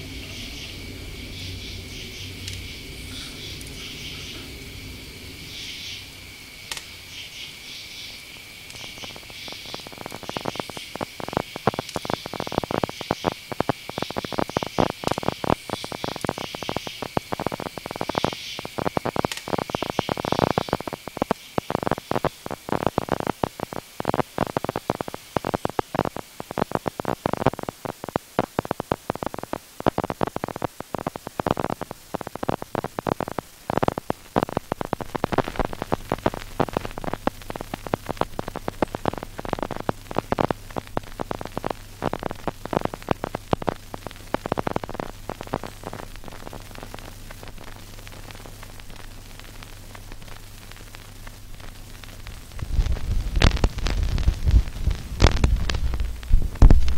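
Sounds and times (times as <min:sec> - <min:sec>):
faint hiss: 0:00.0 - 0:56.9
static-like crackling: 0:00.0 - 0:56.9
steady low hum: 0:00.0 - 0:56.9.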